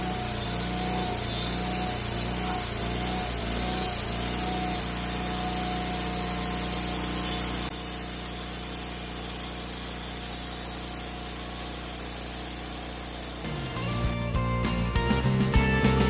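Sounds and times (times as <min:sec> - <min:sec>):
steady whine: 0:00.0 - 0:15.8
sawmill engine running: 0:00.0 - 0:16.0.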